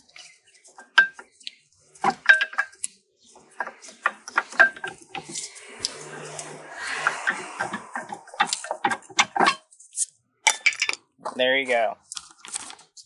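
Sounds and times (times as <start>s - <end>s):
metal clinks and scrapes: 0.1s - 11.0s.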